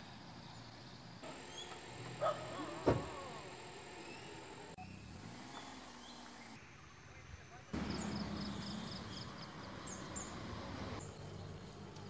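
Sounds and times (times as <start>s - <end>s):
vehicle engines humming: 0.0s - 6.8s, 7.7s - 12.0s.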